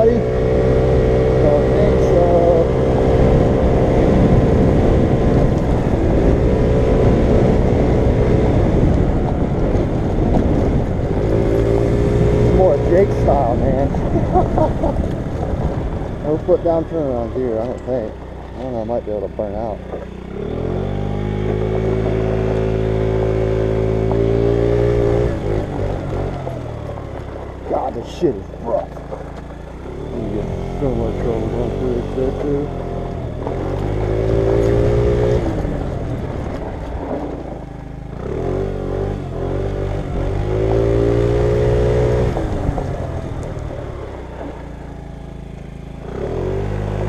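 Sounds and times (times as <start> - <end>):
scooter engine running: 0.0 - 47.0
wind rumbling on microphone: 0.0 - 47.0.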